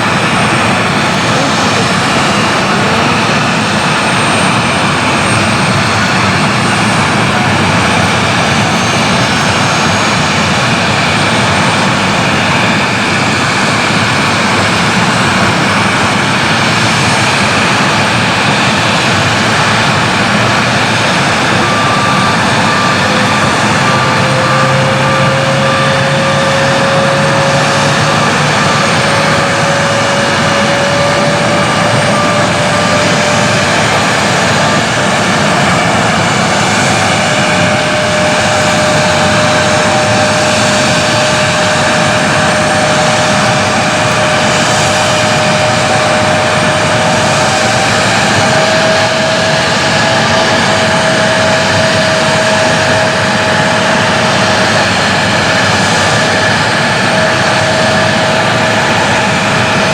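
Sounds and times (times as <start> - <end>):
airliner engines running: 0.0 - 59.9
rising engine whine: 0.0 - 59.9.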